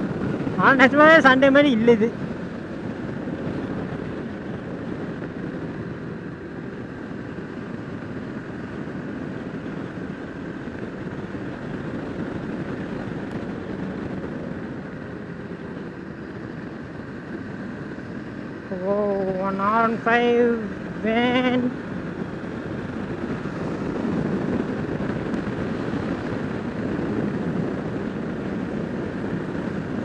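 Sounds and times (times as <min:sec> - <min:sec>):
motorcycle engine running: 0:00.0 - 0:30.0
road noise: 0:00.0 - 0:30.0
wind noise: 0:00.0 - 0:30.0.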